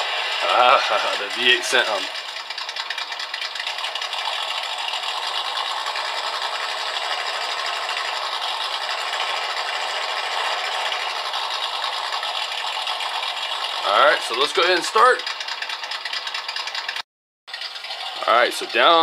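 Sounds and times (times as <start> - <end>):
simulated engine idling from speaker: 0.0 - 17.0, 17.6 - 19.0.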